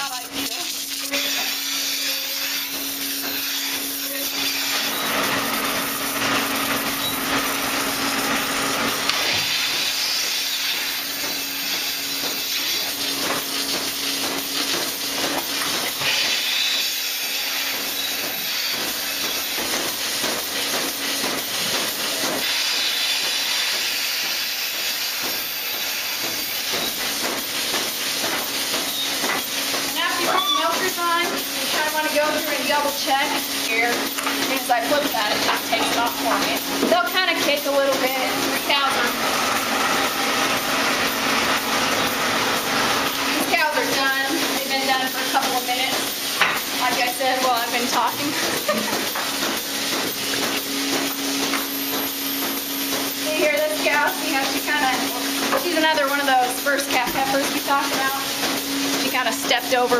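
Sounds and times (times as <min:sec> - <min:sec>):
milking units hissing: 0:00.0 - 0:59.9.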